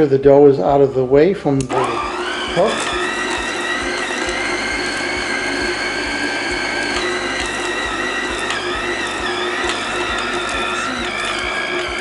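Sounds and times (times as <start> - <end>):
stand mixer motor whine: 1.6 - 12.0.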